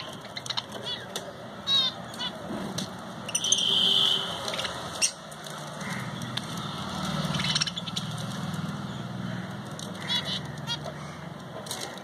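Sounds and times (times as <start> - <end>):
lovebirds chirping: 0.0 - 2.5, 3.1 - 12.0.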